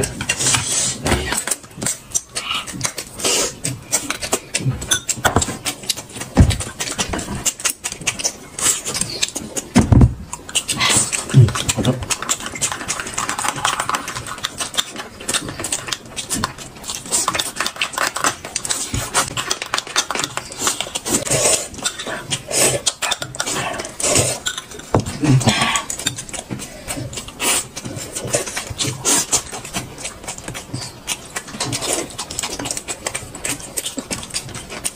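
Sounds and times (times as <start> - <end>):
chewing: 0.0 - 34.9.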